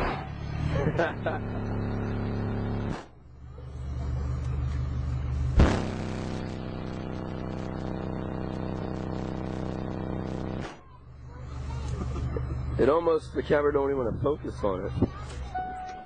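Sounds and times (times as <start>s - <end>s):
loud deep bass from subwoofers: 0.6s - 10.7s, 11.4s - 15.3s.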